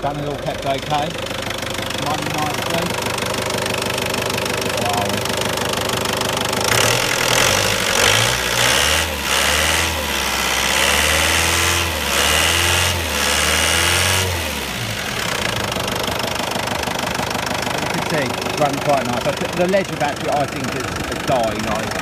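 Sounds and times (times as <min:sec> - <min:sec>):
engine idling: 0:00.0 - 0:22.0
van engine revving: 0:00.0 - 0:22.0.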